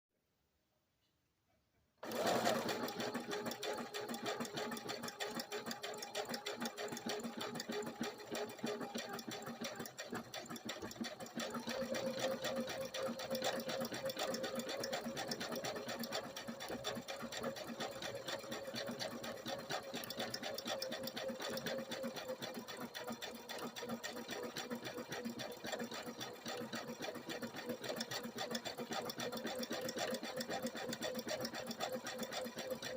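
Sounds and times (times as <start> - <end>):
sewing machine stitching: 2.0 - 32.9.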